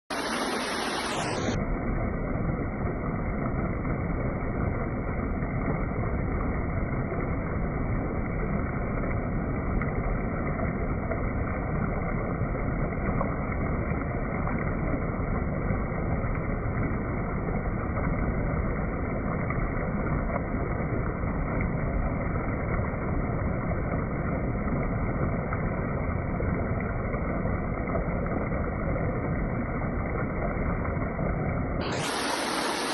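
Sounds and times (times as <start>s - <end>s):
flowing water rushing: 0.0s - 32.9s.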